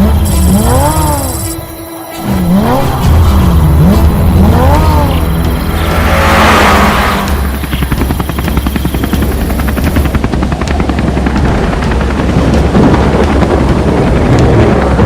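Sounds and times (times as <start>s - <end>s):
helicopter rotor chopping: 0.0s - 15.0s
low engine drone: 0.0s - 15.0s.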